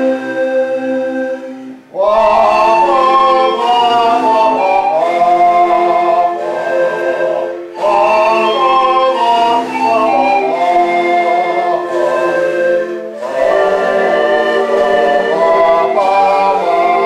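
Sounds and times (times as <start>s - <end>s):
panpipe ensemble playing chords: 0.0s - 17.0s.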